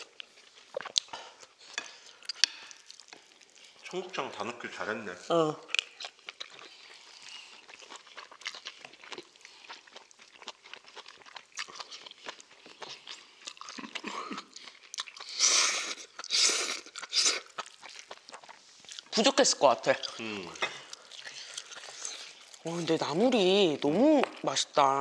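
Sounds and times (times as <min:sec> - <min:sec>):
chewing and biting: 0:00.0 - 0:03.9, 0:05.6 - 0:19.2, 0:19.8 - 0:24.5.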